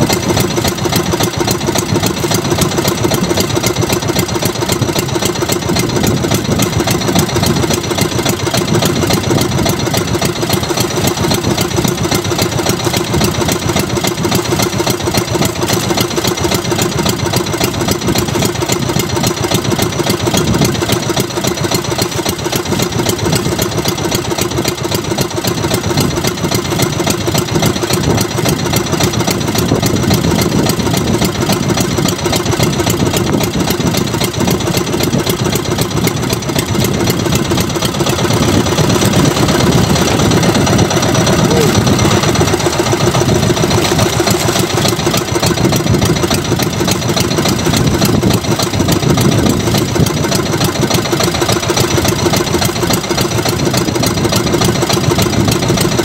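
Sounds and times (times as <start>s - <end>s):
small boat engine idling: 0.0s - 56.0s.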